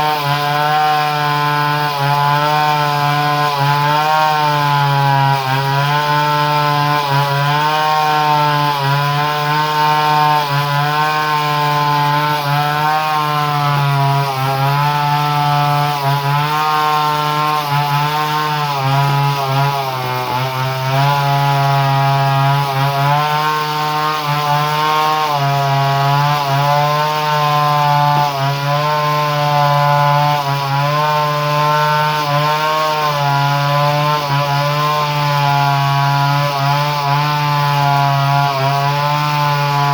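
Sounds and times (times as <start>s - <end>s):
chainsaw engine at high revs: 0.0s - 39.9s.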